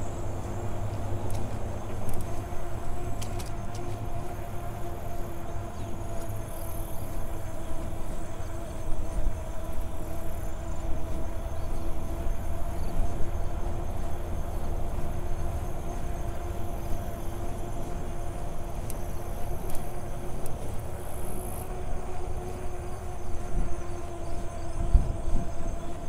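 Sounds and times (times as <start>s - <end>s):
bicycle humming: 0.0s - 26.0s
wind rumble on microphone: 0.0s - 26.0s.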